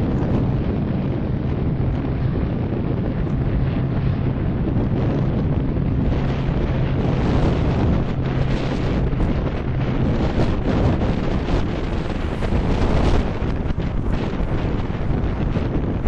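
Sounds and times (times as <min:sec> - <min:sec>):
turboprop engine droning: 0:00.0 - 0:16.0
wind noise on microphone: 0:00.0 - 0:16.0.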